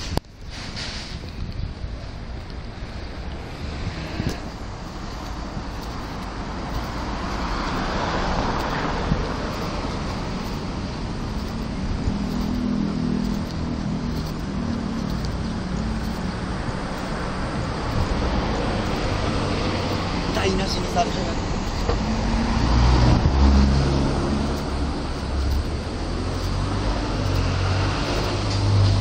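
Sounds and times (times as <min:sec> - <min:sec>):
cars and light trucks passing: 0:00.0 - 0:29.0
low vehicle engine drone: 0:00.0 - 0:29.0
car passing: 0:02.6 - 0:29.0.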